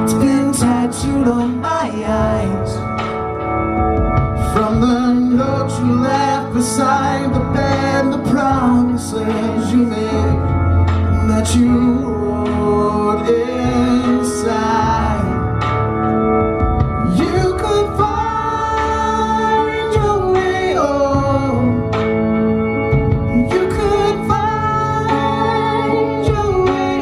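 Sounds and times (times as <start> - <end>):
man singing lead vocal: 0.0 - 3.6, 4.2 - 27.0
drums: 0.0 - 27.0
electric guitar: 0.0 - 27.0
keyboard: 0.0 - 27.0.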